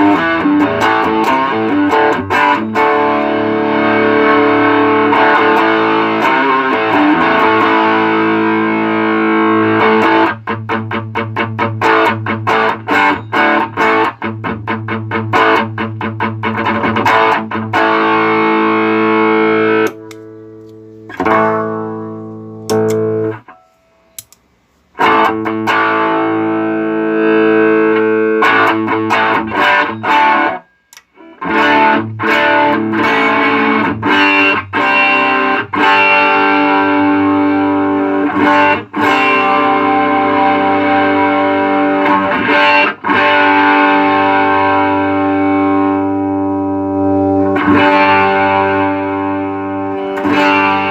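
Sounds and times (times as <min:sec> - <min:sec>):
distorted electric guitar chords: 0:00.0 - 0:24.3, 0:24.9 - 0:50.9.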